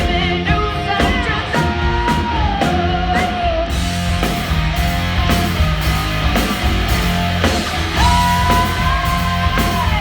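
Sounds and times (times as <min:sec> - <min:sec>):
rock band playing live: 0:00.0 - 0:10.0.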